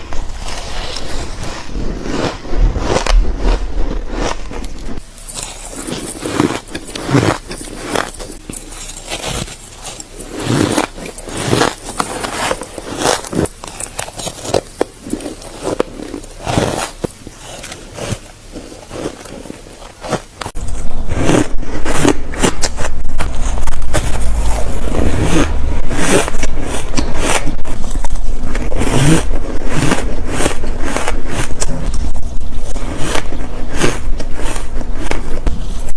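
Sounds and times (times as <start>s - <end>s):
ice crunching between teeth: 0.2s - 35.9s.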